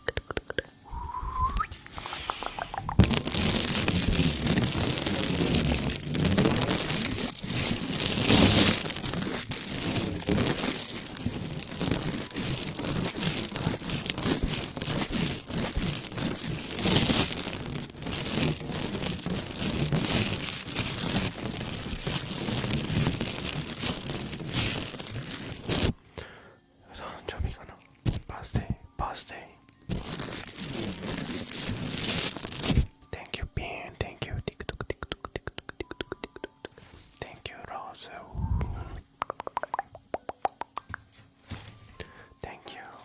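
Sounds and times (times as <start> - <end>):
close crinkling and crackling: 1.5 - 26.0, 27.3 - 38.2, 41.4 - 43.0.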